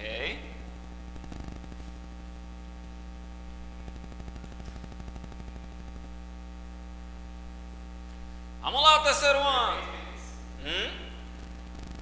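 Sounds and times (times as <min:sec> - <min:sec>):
electrical mains hum: 0:00.0 - 0:12.0
faint static hiss: 0:00.0 - 0:12.0.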